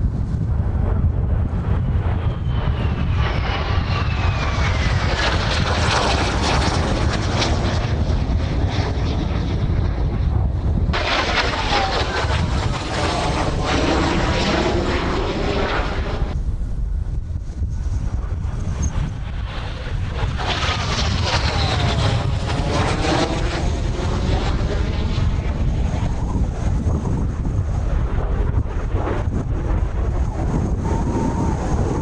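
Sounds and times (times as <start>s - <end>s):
jet aircraft flying past: 0.0s - 32.0s
wind rumbling on microphone: 0.0s - 32.0s.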